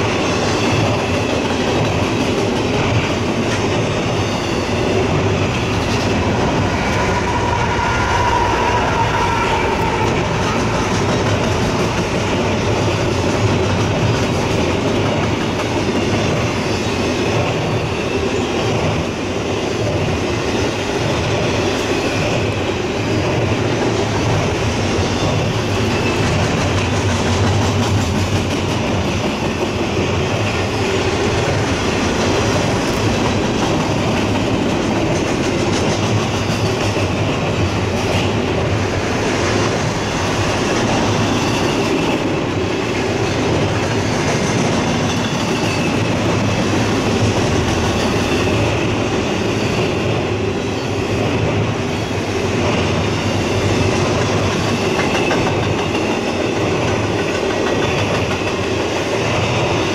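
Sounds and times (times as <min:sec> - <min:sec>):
freight train cars rolling on rails: 0:00.0 - 0:59.9.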